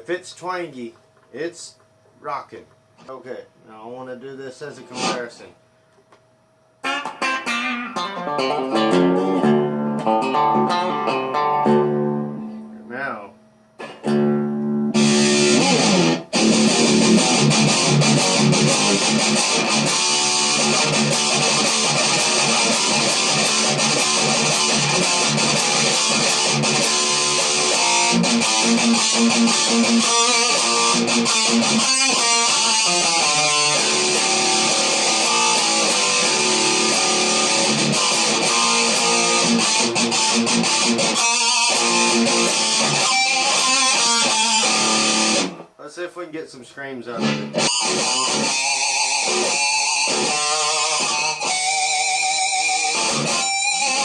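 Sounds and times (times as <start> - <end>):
distorted electric guitar riffing: 4.9 - 5.3, 6.8 - 13.2, 13.8 - 45.7, 47.1 - 54.0.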